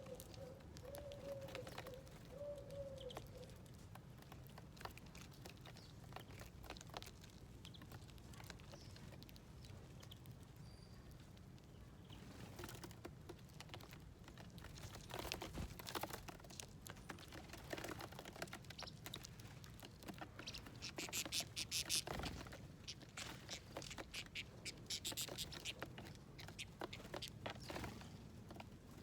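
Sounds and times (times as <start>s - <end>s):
birds pecking at seeds: 0.0s - 29.0s.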